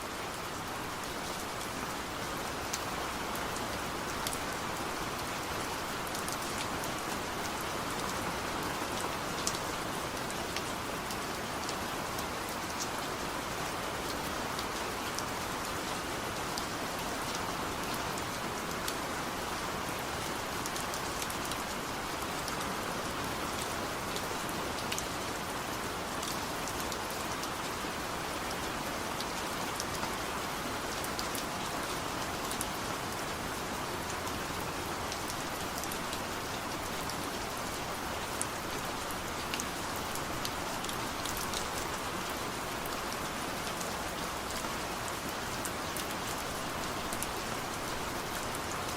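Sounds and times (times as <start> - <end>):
steady rain hissing: 0.0 - 48.9.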